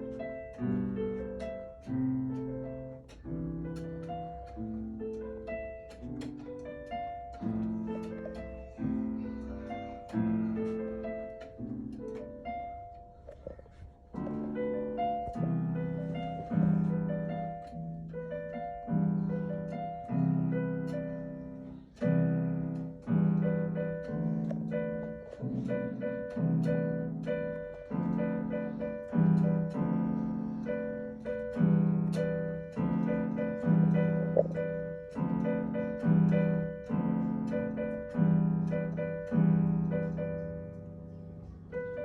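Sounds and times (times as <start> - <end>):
slow piano chords: 0.0 - 42.0.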